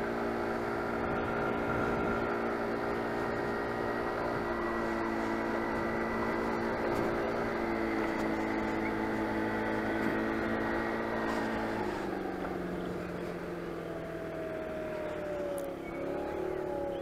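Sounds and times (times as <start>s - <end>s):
motor scooter engine running: 0.0s - 17.0s.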